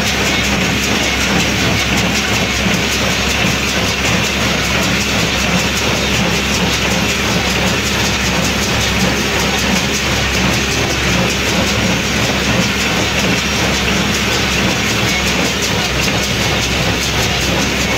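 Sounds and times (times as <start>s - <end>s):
baler mechanical clatter: 0.0s - 17.9s
tractor engine running: 0.0s - 17.9s.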